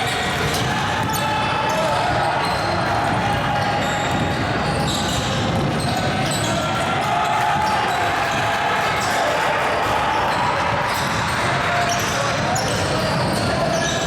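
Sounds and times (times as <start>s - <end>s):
basketball bouncing on court: 0.0s - 9.1s, 10.2s - 14.0s
crowd chatter: 0.0s - 14.0s.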